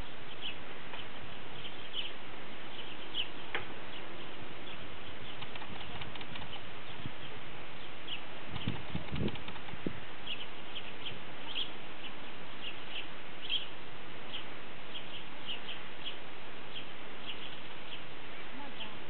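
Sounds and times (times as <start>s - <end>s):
small birds chirping: 0.0s - 19.0s
steady background hiss: 0.0s - 19.0s.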